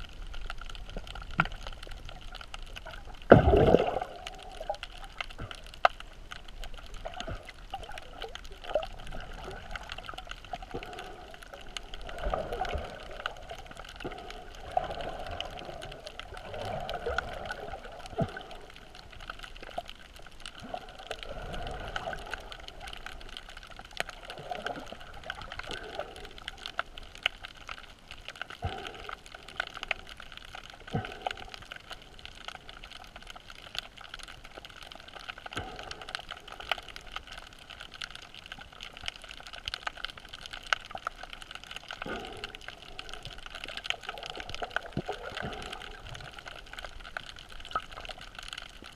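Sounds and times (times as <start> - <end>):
muffled underwater water noise: 0.0 - 48.9
faint clicks: 0.1 - 48.9.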